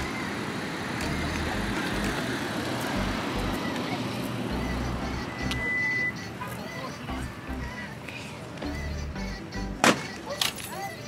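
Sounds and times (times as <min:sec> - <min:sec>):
outdoor rushing noise: 0:00.0 - 0:09.0.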